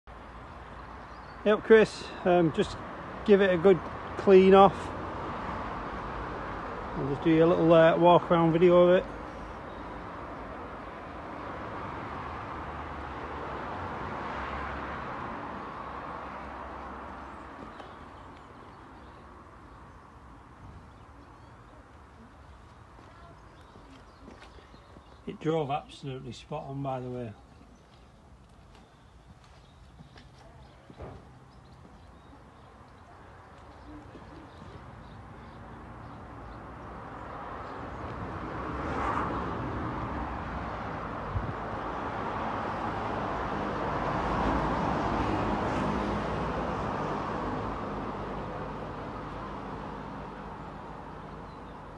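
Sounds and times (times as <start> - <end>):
vehicle passing: 0.4 - 21.2, 22.0 - 51.9.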